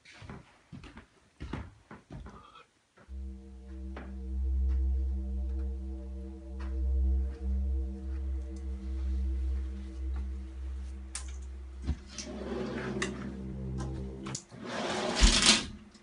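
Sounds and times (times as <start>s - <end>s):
low droning music: 3.1s - 16.0s.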